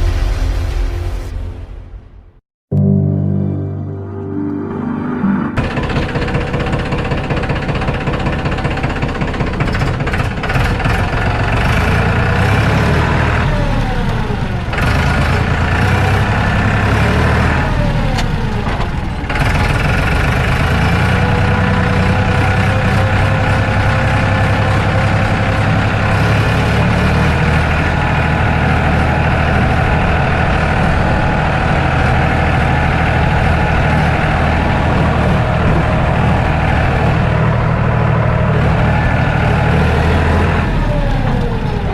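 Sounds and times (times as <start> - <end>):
small engine running: 5.6 - 41.9.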